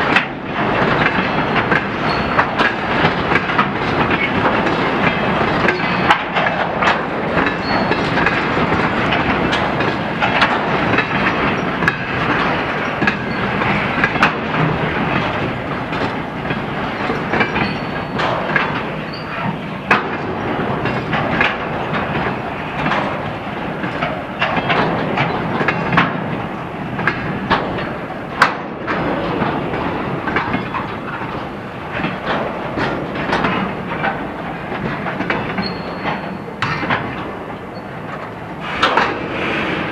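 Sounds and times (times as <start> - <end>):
train wheels clacking on rail joints: 0.0 - 39.9.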